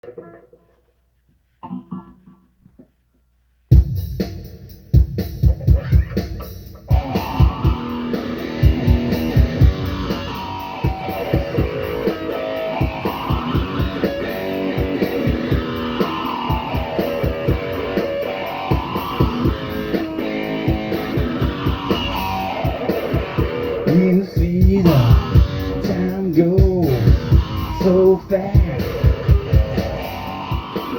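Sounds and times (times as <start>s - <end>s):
drum hits: 3.7s - 30.9s
rock band playing: 3.8s - 30.9s.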